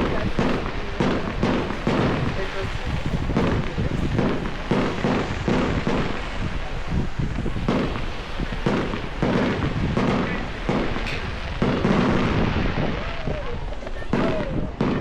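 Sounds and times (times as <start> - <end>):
fireworks banging: 0.0 - 15.0.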